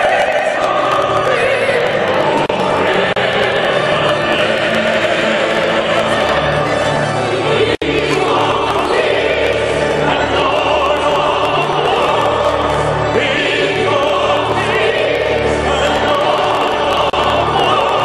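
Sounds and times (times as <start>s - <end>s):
low musical accompaniment: 0.0s - 18.0s
mixed choir singing: 0.0s - 18.0s.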